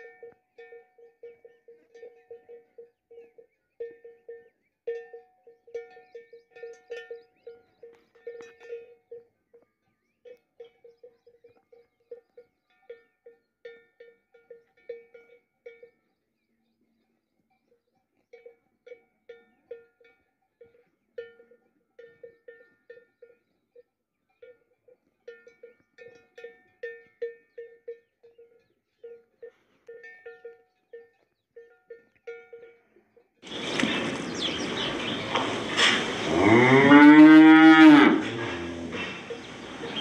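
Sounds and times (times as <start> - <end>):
cowbell clanking: 0.0 - 33.6, 36.3 - 40.0.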